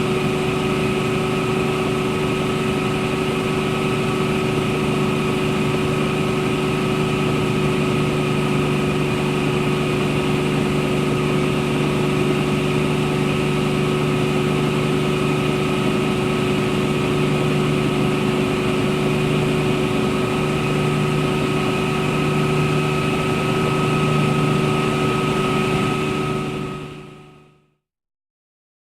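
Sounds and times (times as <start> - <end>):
helicopter engine drone: 0.0 - 27.5.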